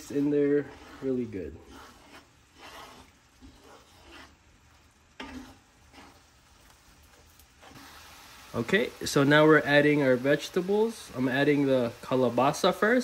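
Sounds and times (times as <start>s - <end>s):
faint pan sizzle: 0.0s - 13.0s
wooden spatula scraping a skillet: 0.0s - 13.0s.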